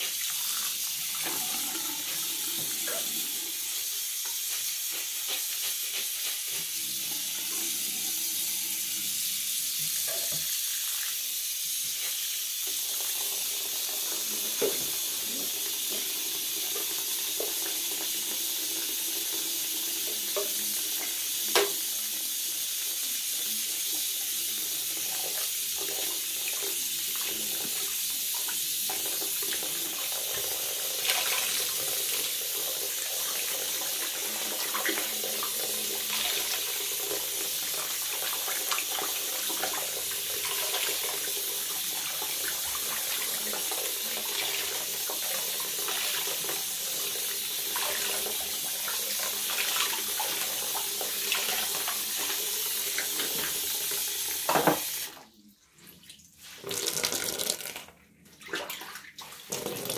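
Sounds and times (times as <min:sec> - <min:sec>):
faucet running into sink: 0:00.0 - 0:55.2, 0:56.4 - 0:57.9, 0:58.6 - 0:59.9.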